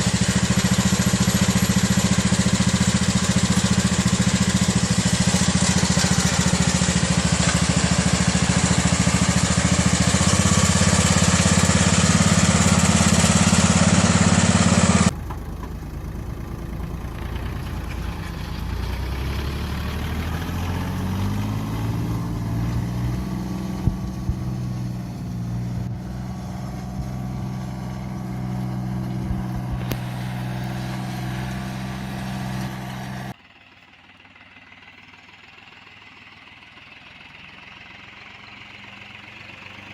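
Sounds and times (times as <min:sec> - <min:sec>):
engine revving: 0:00.0 - 0:33.4
mini tractor engine running: 0:00.0 - 0:39.9.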